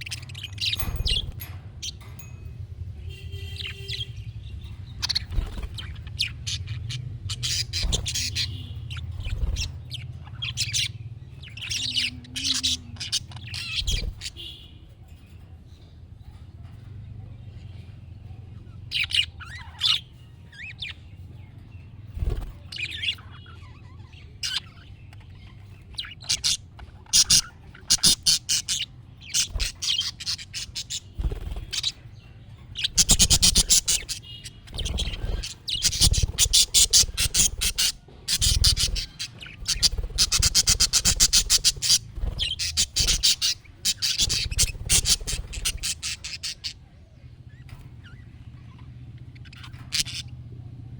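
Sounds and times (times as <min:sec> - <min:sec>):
budgerigars chirping and warbling: 0:00.0 - 0:50.9.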